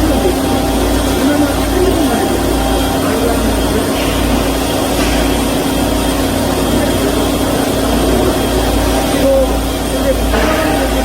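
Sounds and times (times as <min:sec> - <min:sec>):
band saw machine humming: 0:00.0 - 0:11.0.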